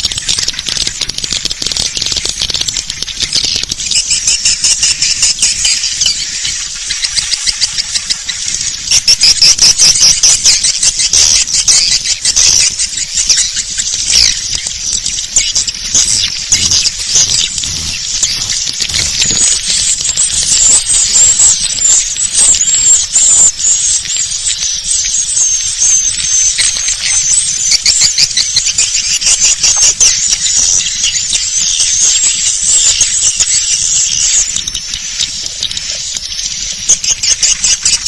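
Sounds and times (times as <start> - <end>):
swiftlets chirping and clicking: 0.0 - 38.0.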